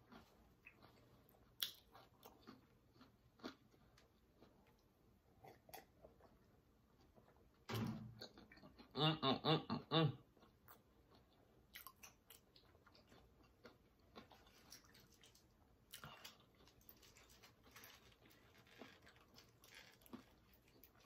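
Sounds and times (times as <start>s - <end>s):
person chewing: 0.0s - 9.3s, 10.2s - 21.0s.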